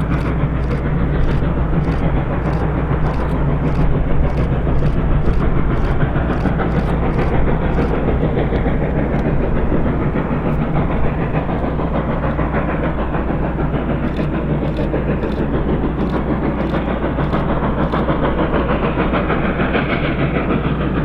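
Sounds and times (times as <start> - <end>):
steam train rumbling: 0.0 - 21.0.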